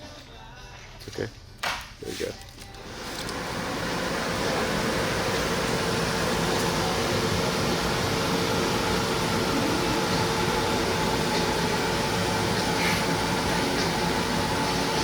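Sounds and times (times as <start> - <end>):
machine whir: 2.8 - 15.0.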